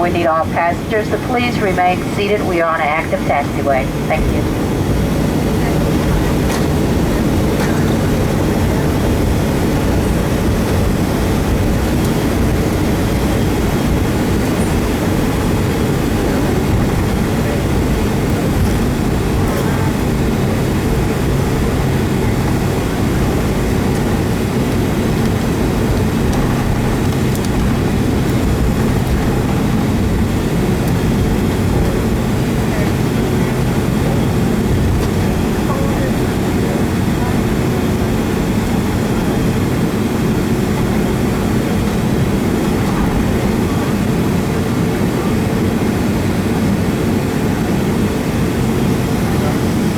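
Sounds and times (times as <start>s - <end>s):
low hums: 0.0s - 44.8s
aircraft cabin rumble: 0.0s - 49.9s.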